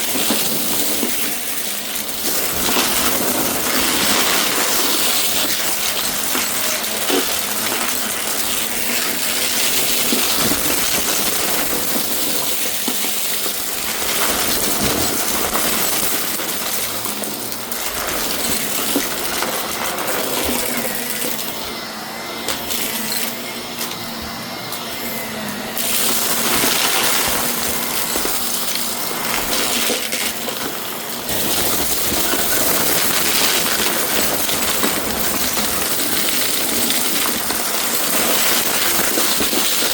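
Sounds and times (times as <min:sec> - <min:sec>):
vacuum cleaner droning: 0:00.0 - 0:39.9.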